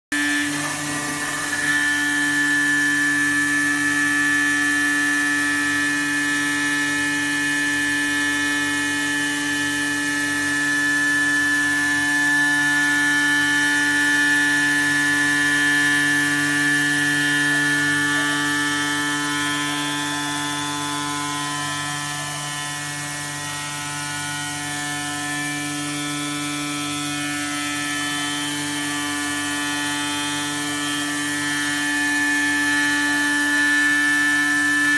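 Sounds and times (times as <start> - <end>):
cutting machine whine and hum: 0.1 - 34.9.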